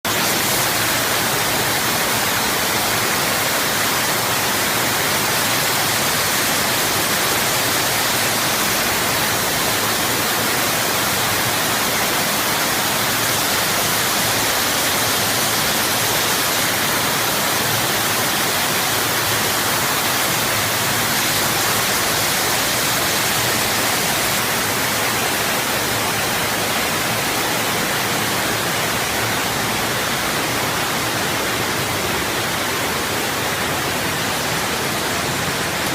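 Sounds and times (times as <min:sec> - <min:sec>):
waterfall pouring: 0:00.1 - 0:30.8.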